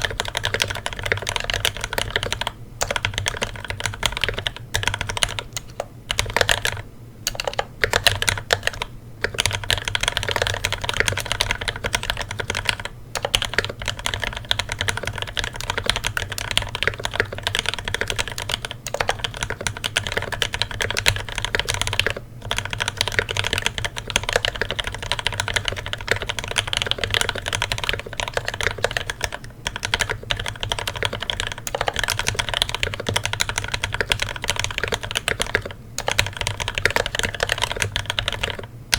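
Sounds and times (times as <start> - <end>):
mechanical keyboard typing: 0.0 - 38.7
steady low hum: 0.0 - 38.9.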